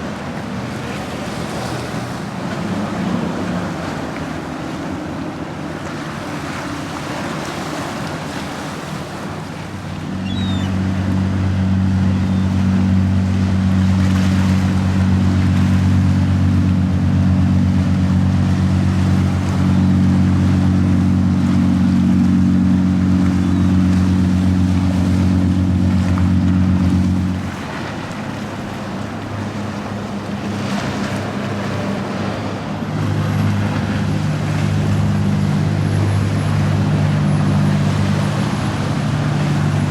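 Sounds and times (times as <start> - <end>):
boat engines droning: 0.0 - 39.9
surf: 0.0 - 39.9
wind: 0.0 - 39.9.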